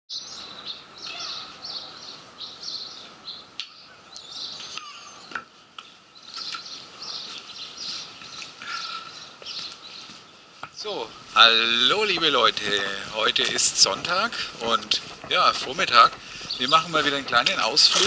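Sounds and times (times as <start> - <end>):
songbirds chirping: 0.1 - 18.0
steady background noise: 0.2 - 18.0.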